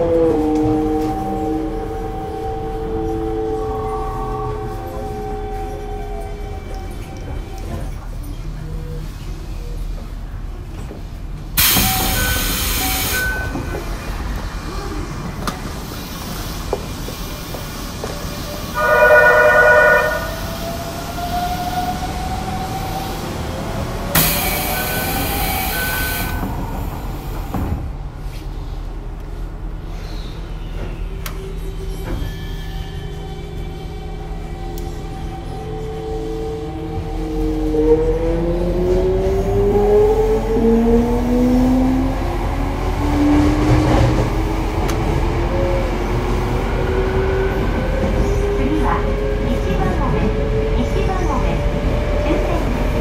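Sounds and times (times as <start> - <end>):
wheels rumbling on rail: 0.0 - 53.0.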